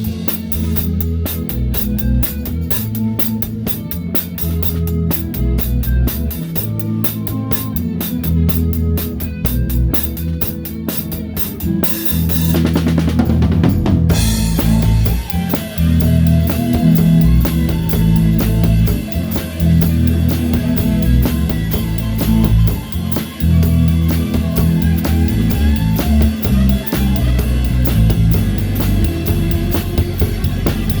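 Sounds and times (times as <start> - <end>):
drum kit groove: 0.0 - 31.0
live band playing: 0.0 - 31.0.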